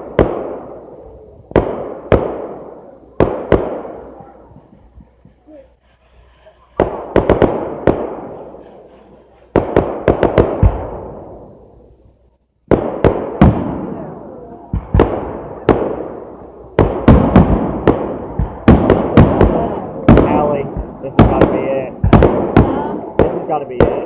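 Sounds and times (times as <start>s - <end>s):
fireworks bangs echoing: 0.0s - 24.0s.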